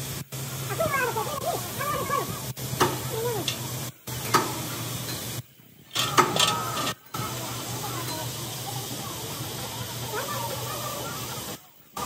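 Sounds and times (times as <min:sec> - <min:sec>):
welding sizzle on steel: 0:00.0 - 0:12.0.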